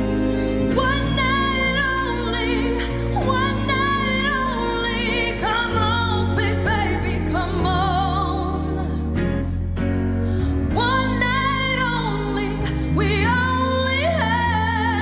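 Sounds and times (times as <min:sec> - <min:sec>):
woman singing a pop ballad: 0:00.0 - 0:09.5, 0:10.2 - 0:15.0.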